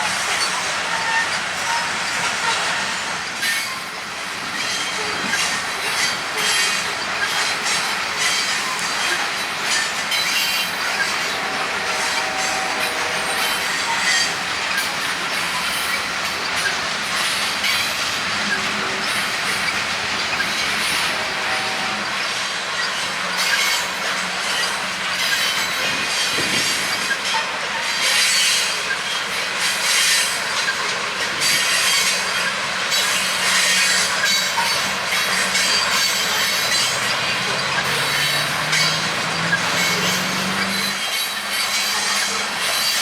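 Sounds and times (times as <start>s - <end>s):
freight train cars rolling: 0.0s - 43.0s
wheels squealing against rails: 0.0s - 43.0s
wheels clicking over rail joints: 3.3s - 43.0s.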